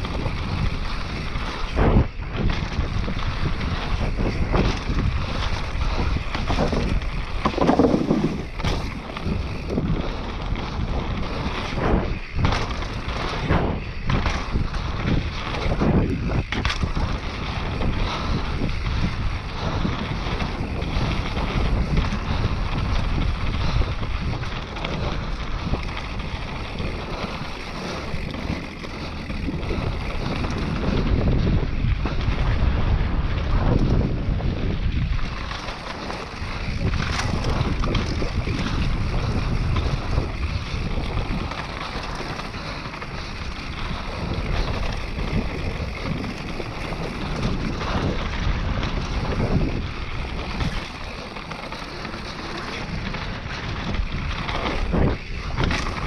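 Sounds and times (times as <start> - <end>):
bike tyre noise on dirt: 0.0 - 56.0
wind rushing over microphone: 0.0 - 56.0.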